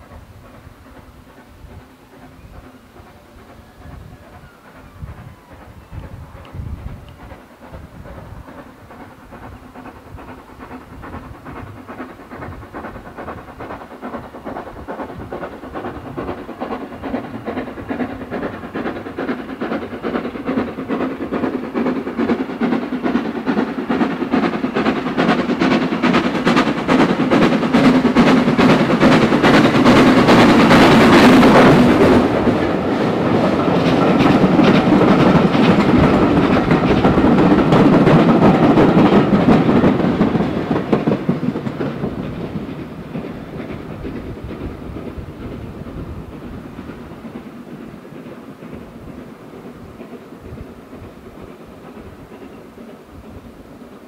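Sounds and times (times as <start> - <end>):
steam locomotive exhaust beats: 0.0 - 54.0
wheels clicking over rail joints: 0.0 - 54.0.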